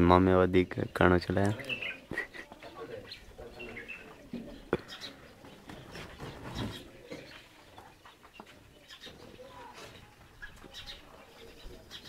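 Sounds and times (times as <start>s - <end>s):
bird calls and clucks: 0.0s - 12.0s.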